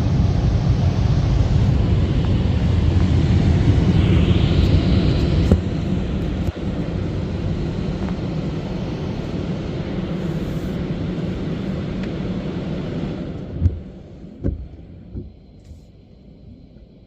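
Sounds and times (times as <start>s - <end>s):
car wash drying fans roaring: 0.0s - 17.0s.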